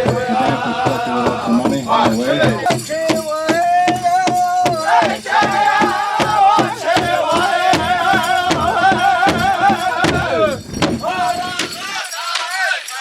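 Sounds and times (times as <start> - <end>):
hand drum fast beat: 0.0 - 12.0
group singing in high voices: 0.0 - 13.0.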